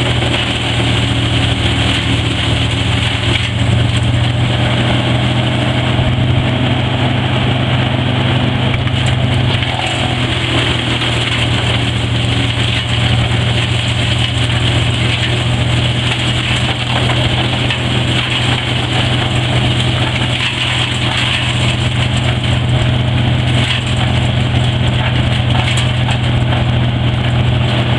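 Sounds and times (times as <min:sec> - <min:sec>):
wood chipper running: 0:00.0 - 0:27.9.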